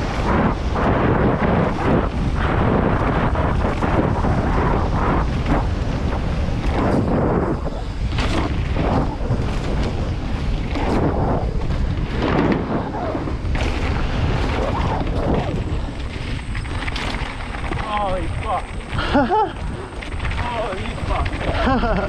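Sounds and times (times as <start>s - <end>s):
bike rattling: 0.0s - 22.0s
bike tyres rolling over dirt: 0.0s - 22.0s
wind buffeting microphone: 0.0s - 22.0s.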